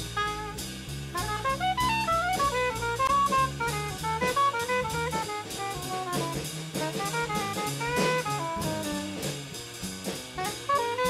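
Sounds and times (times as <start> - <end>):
bass line: 0.0 - 11.0
drum kit: 0.0 - 11.0
jazz saxophone: 0.0 - 11.0.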